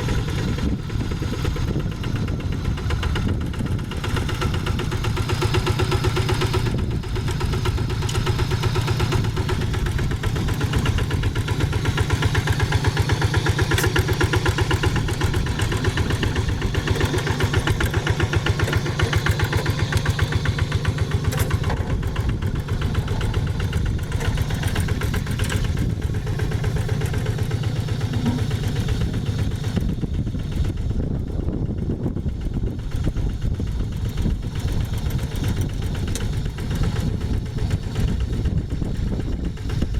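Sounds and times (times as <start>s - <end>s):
hand tractor diesel engine chugging: 0.0s - 39.9s.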